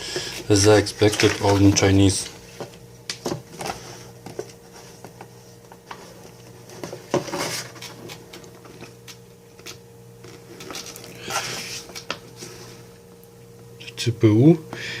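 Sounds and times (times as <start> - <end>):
faint steady hum: 0.0 - 15.0
paper rustling: 0.2 - 12.8.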